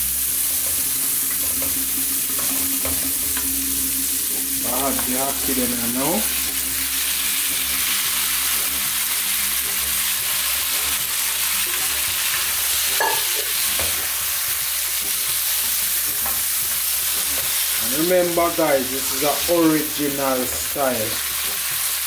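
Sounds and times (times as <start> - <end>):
food sizzling in a pan: 0.0 - 22.0
spatula stirring in a pan: 0.1 - 22.0.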